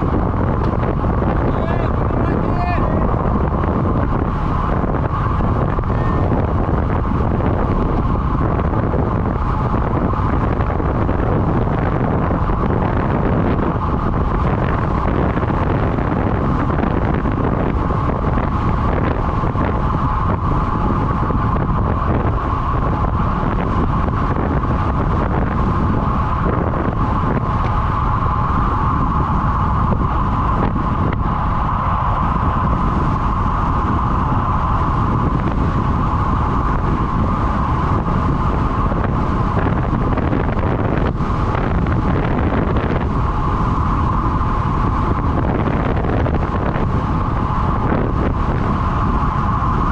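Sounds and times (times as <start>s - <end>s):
constant tyre whine: 0.0s - 49.9s
wind rushing on microphone: 0.0s - 49.9s.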